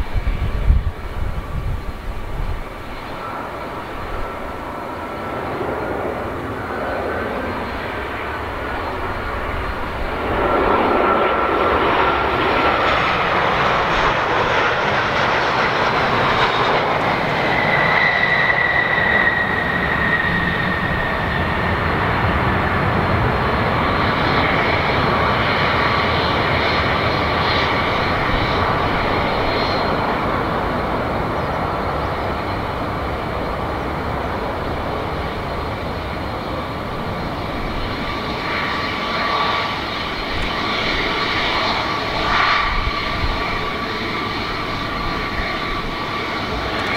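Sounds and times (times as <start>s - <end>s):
jet engine roar and whine: 0.0s - 46.9s
jet rumbling down runway: 0.0s - 46.9s.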